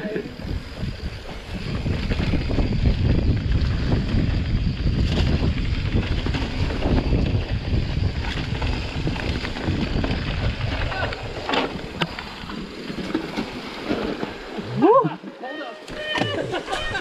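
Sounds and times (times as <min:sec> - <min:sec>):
wind on microphone: 0:00.0 - 0:14.9
bike rattling over bumps: 0:00.2 - 0:14.8
bike tyres on leaves and dirt: 0:00.3 - 0:14.9.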